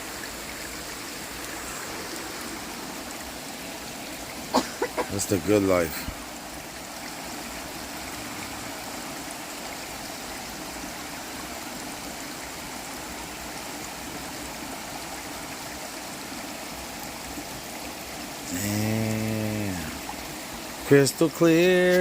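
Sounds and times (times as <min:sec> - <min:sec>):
stream and waterfall rushing: 0:00.0 - 0:22.0.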